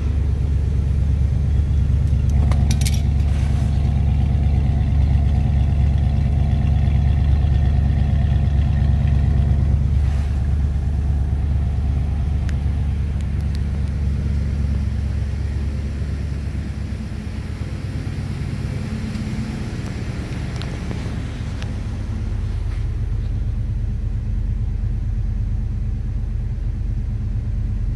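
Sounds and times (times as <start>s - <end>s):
truck engine idling: 0.0s - 27.9s.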